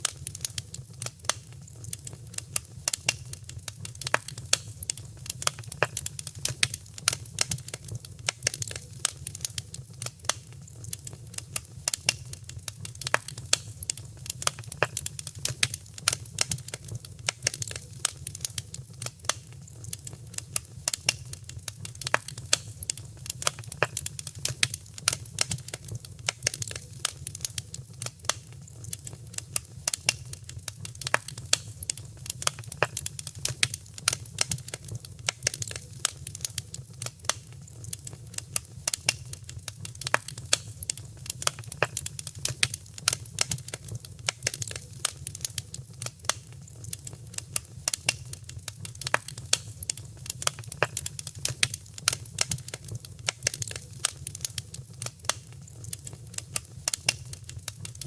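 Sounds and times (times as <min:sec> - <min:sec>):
fireplace fire crackling: 0:00.0 - 0:58.0
low rumble of flames: 0:00.0 - 0:58.0.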